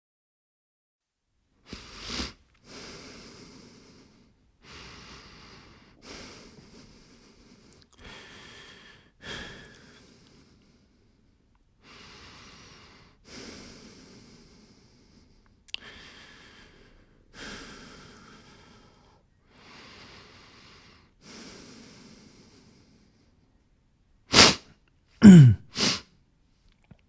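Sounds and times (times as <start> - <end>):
man breathing slowly: 1.6 - 23.6, 25.2 - 26.0.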